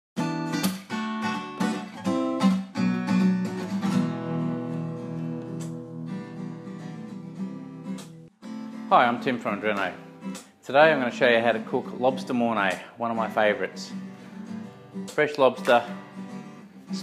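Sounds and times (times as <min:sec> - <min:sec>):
acoustic guitar strumming chords: 0:00.2 - 0:17.0.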